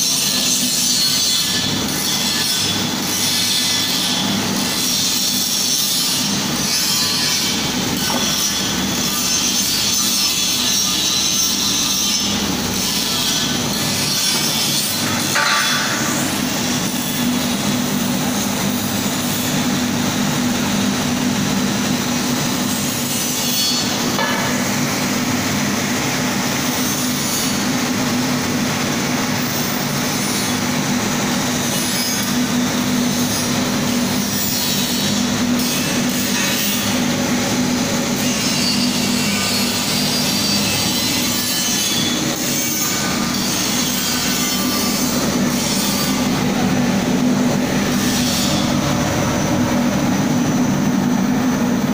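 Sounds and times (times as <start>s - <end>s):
constant low hum: 1.4s - 51.9s.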